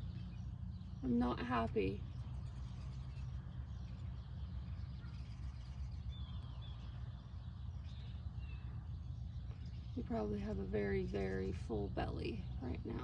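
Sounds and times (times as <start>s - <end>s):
faint bird chirps: 0.0s - 13.0s
steady low rumble: 0.0s - 13.0s.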